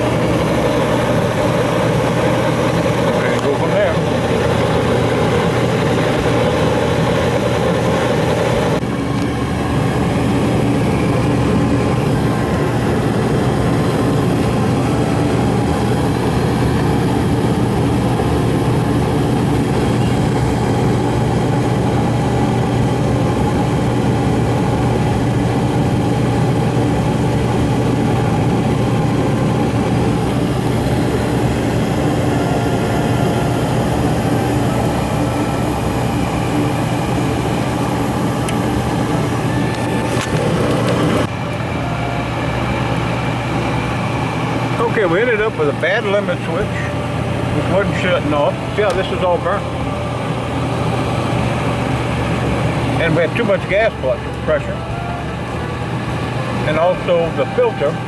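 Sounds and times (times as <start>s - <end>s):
gas furnace drone: 0.0s - 58.0s
higher whir: 0.0s - 58.0s.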